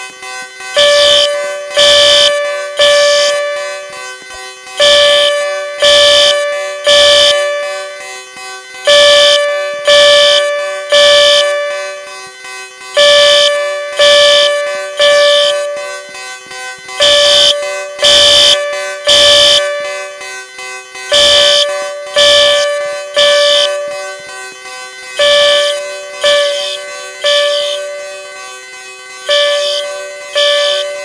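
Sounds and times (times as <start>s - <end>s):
fire alarm horn blasts: 0.0s - 31.0s.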